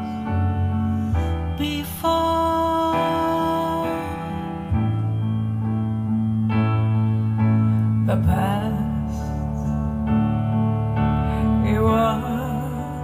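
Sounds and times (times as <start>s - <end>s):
keyboard chords: 0.0s - 13.0s
steady bass line: 0.0s - 13.0s.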